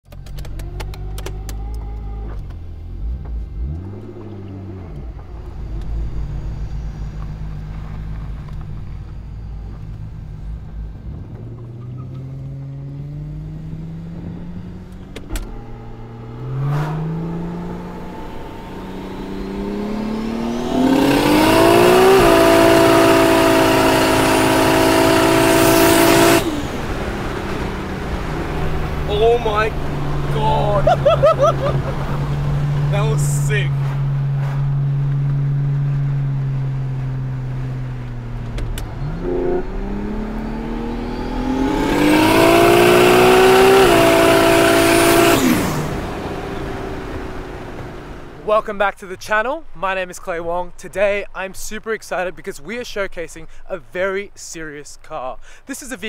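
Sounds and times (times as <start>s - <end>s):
car engine revving and accelerating: 0.2s - 48.4s.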